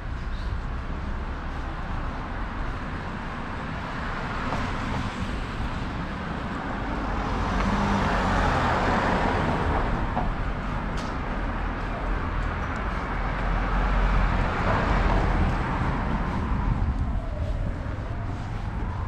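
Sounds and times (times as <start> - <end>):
background traffic hum: 0.0 - 19.0.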